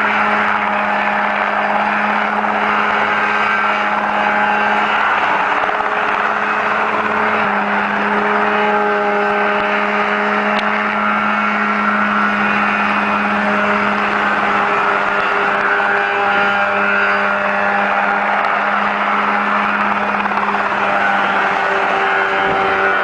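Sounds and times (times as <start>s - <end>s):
helicopter engine drone: 0.0s - 23.0s.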